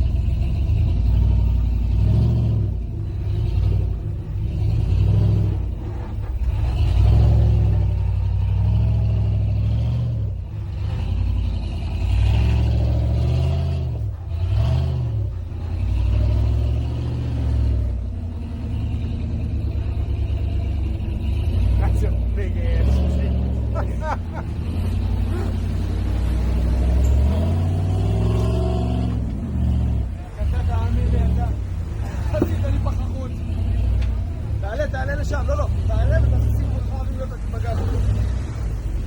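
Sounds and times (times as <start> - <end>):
off-road engines revving: 0.0 - 39.0.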